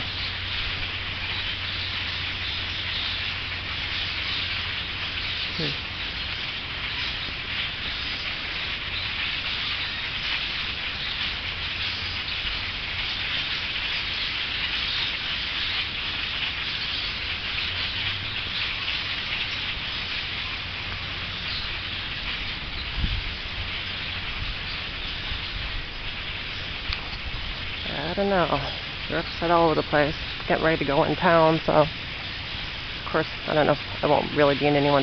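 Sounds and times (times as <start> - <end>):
flock of birds chirping: 0.0 - 35.0.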